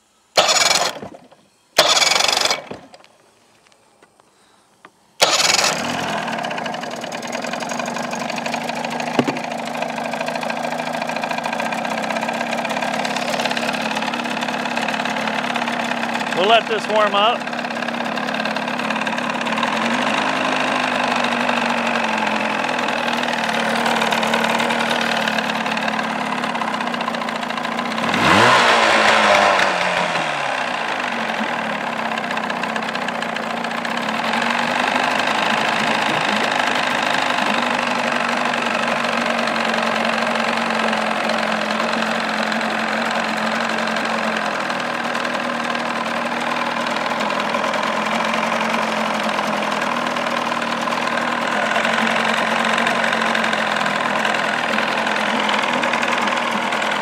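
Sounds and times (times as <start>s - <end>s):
outboard motor idling: 0.0s - 3.1s, 4.0s - 57.0s.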